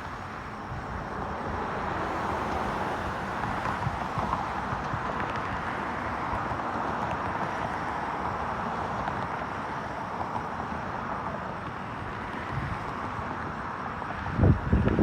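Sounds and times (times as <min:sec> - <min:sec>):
wind gusts buffeting microphone: 0:00.0 - 0:09.6, 0:10.3 - 0:15.0
outdoor background hiss and rumble: 0:00.0 - 0:15.0.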